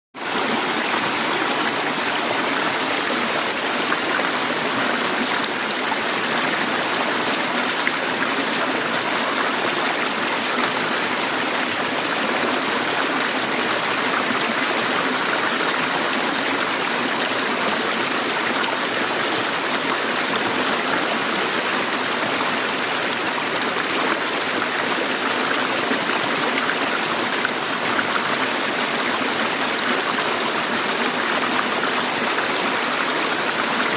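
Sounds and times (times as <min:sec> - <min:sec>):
river water babbling over rocks: 0:00.2 - 0:33.9.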